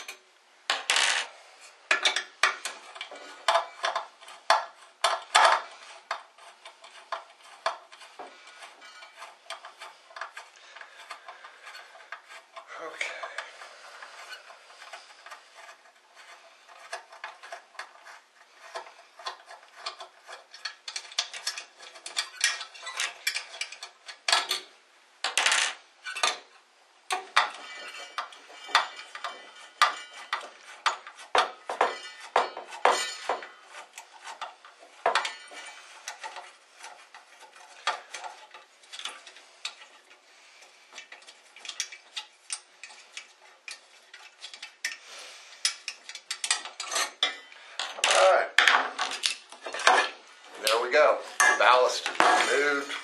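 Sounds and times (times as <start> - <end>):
metal clicking and scraping: 0.0 - 53.0.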